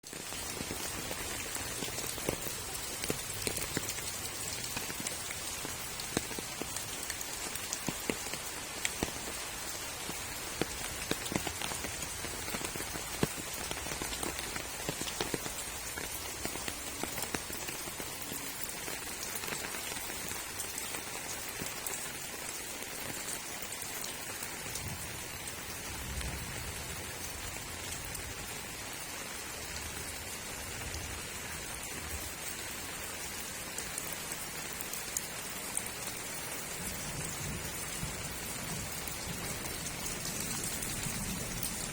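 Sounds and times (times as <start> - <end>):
rain hiss: 0.0 - 41.9.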